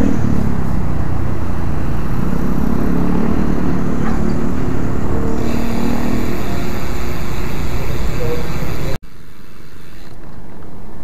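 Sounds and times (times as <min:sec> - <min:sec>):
vehicle engines in traffic: 0:00.0 - 0:11.0.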